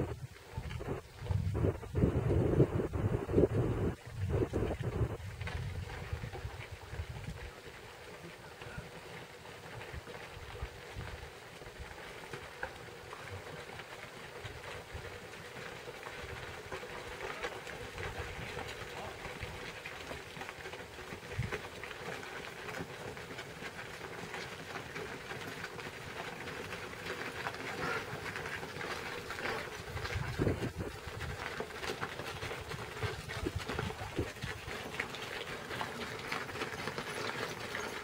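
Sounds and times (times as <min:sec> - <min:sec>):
hooves clattering on gravel: 0:00.0 - 0:38.0.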